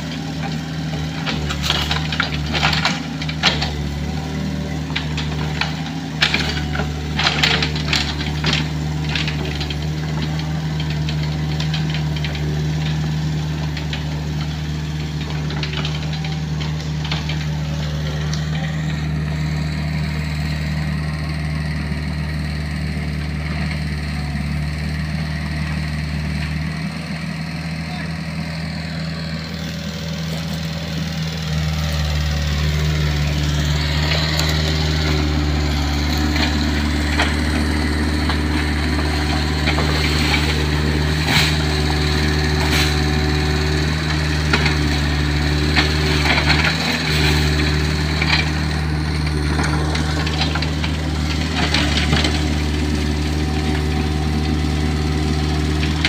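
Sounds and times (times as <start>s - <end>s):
diesel engine running and revving: 0.0s - 56.0s.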